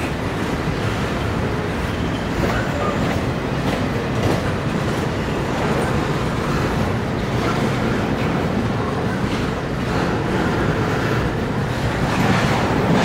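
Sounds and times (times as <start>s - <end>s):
clacks over rail joints: 0.0s - 13.0s
freight train wheels rumbling: 0.0s - 13.0s.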